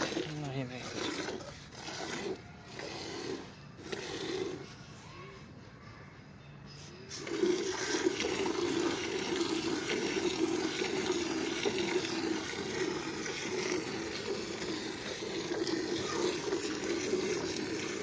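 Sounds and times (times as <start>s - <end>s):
milk squirting into steel bucket: 0.0s - 4.8s, 7.1s - 18.0s.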